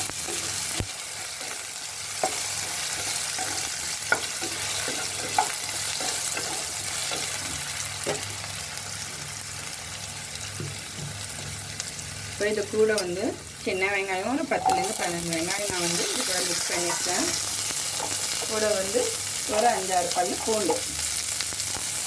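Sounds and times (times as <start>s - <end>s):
potatoes sizzling in oil: 0.0s - 22.0s.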